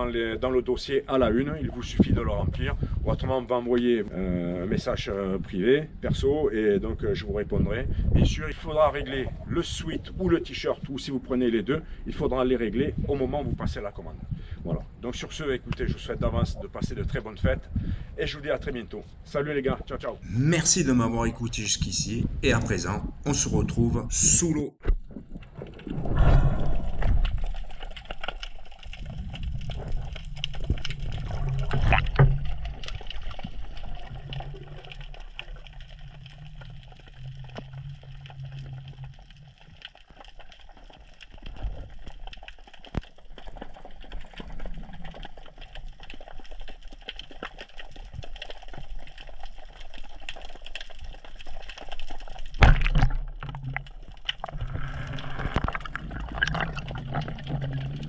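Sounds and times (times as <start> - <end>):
underwater sloshing and gurgling: 0.0 - 22.5, 24.8 - 58.0.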